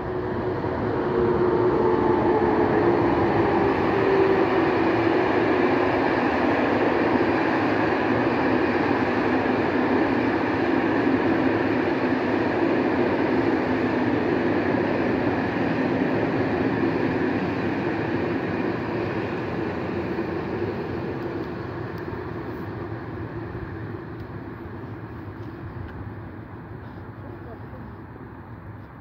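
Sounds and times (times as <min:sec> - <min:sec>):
train coaches rumbling on rails: 0:00.0 - 0:29.0.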